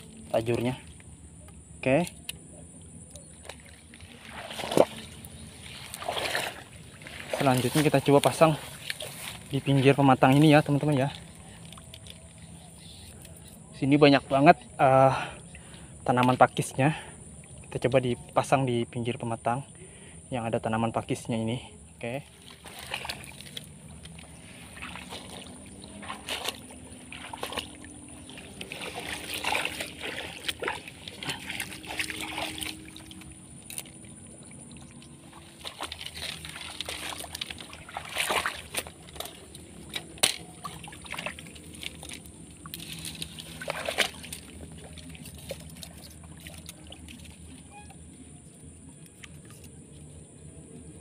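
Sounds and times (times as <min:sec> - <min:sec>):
swamp water sloshing and splashing: 0:00.0 - 0:51.0.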